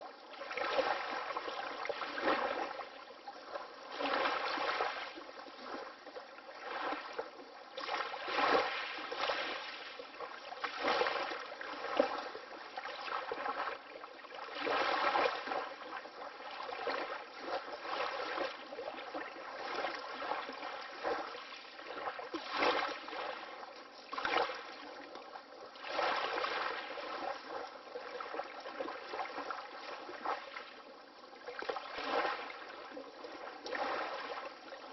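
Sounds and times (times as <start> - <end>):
water lapping in small waves: 0.0 - 34.9.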